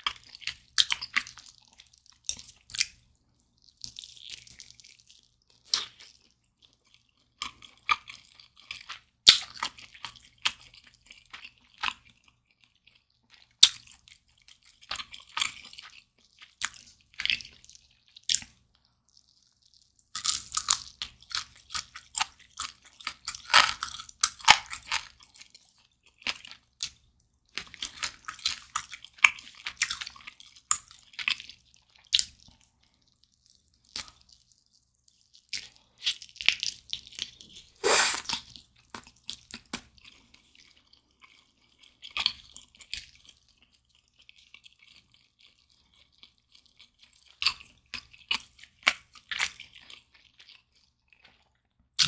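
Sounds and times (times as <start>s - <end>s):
chewing crackly chicken: 0.0s - 52.0s.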